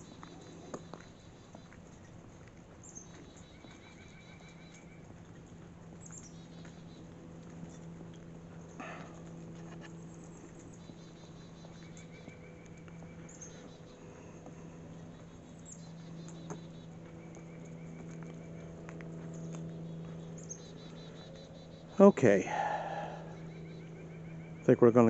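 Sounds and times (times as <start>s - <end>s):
low hum: 0.0s - 25.0s
small birds chirping: 0.0s - 25.0s.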